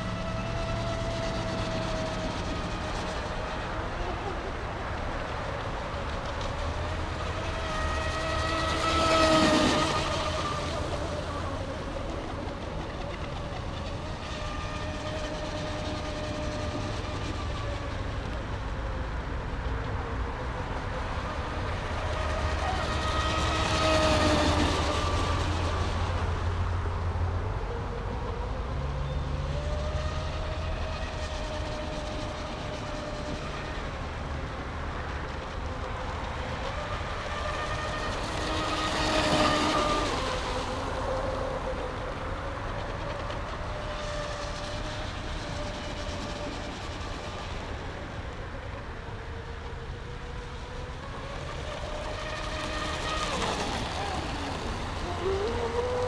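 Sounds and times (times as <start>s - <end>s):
electric motor whine: 0.0s - 18.8s, 20.4s - 56.0s.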